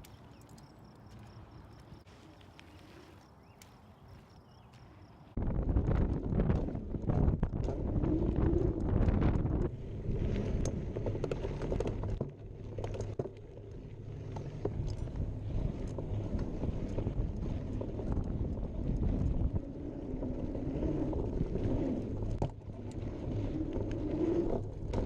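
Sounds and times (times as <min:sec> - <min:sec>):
bike clicks and rattles: 0:00.0 - 0:02.8, 0:05.8 - 0:25.0
wind buffeting microphone: 0:00.0 - 0:25.0.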